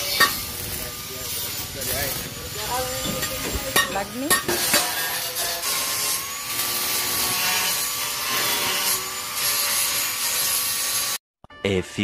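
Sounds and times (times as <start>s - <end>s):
arc welding crackling hiss: 0.0s - 11.2s.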